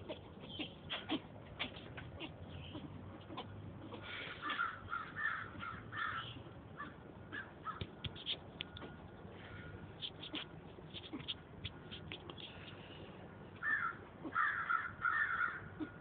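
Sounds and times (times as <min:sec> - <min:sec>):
squirrels barking alarm calls: 0:00.0 - 0:12.9, 0:13.5 - 0:16.0.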